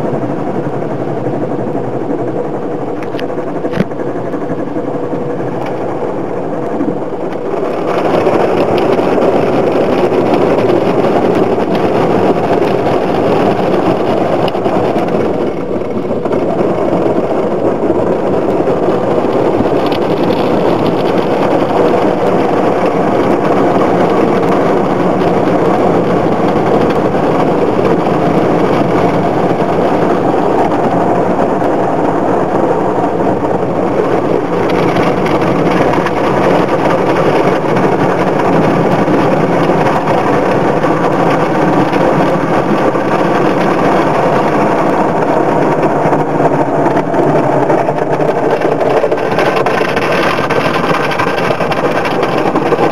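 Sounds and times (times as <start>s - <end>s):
low hum: 0.0s - 52.9s.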